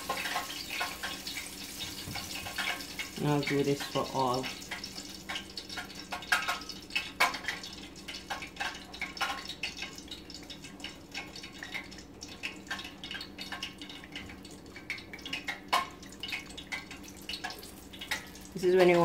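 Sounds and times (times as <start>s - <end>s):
small drips: 0.0s - 19.0s.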